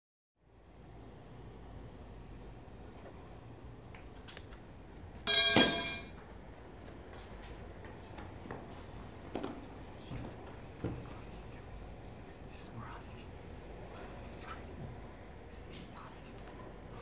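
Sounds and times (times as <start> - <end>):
low room hum: 0.4 - 17.0.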